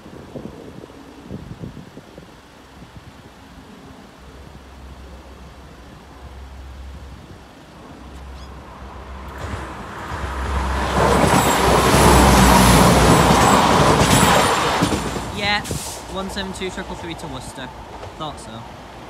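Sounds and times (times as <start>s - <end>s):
diesel train engine: 2.2s - 19.0s
wheels on rails: 3.6s - 19.0s.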